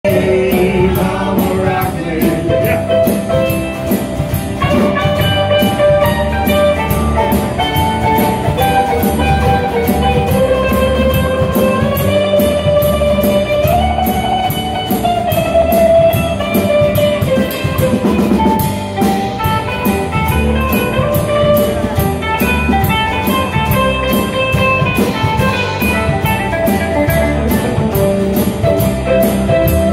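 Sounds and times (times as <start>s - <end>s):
acoustic guitar strumming: 0.0s - 29.9s
mandolin melody: 0.1s - 29.9s.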